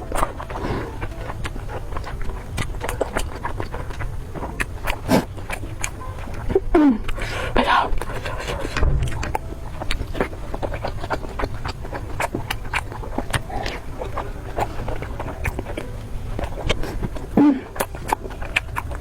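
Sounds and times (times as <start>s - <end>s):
chewing and biting: 0.0s - 19.0s
steady low rumble: 0.0s - 19.0s.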